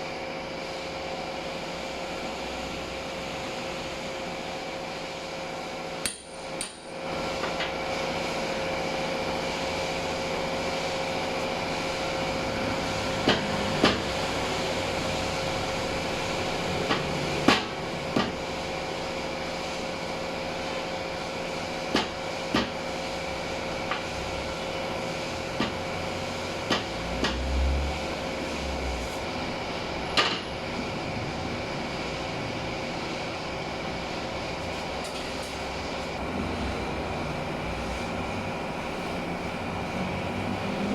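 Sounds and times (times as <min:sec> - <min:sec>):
steady machine hum: 0:00.0 - 0:40.9.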